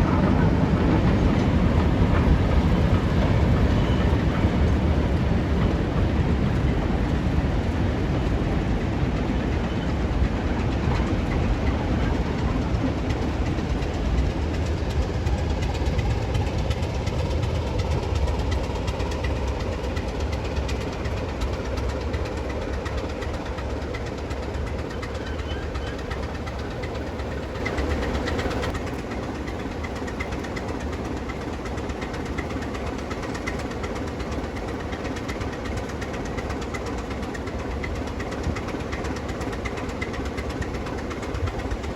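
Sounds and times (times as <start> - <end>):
diesel locomotive engine throbbing: 0.0 - 41.9.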